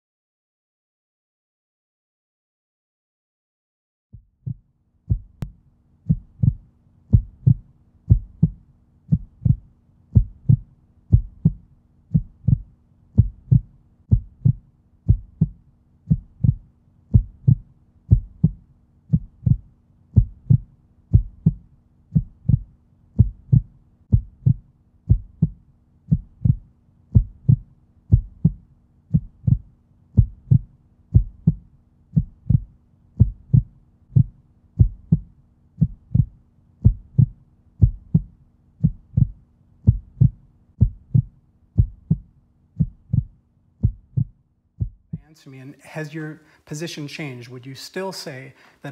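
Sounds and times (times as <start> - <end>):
heartbeat double thumps: 4.2 - 45.3.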